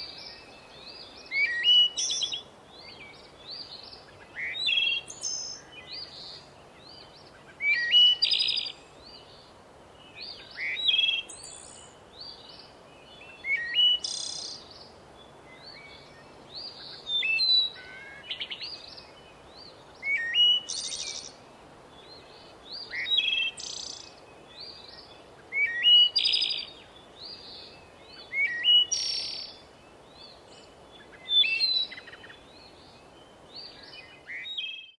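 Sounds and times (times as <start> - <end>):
faint bird chirps: 0.0 - 35.0
songbird singing: 0.0 - 35.0.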